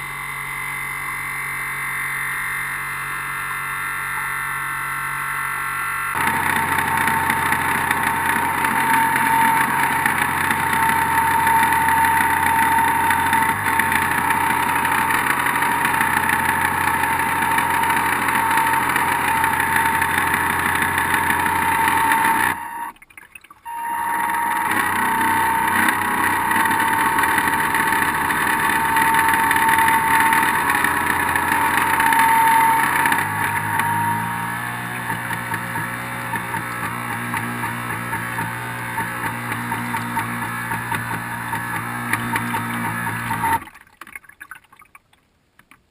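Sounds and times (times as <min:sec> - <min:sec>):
electric motor whine: 0:00.0 - 0:22.9, 0:23.7 - 0:43.6.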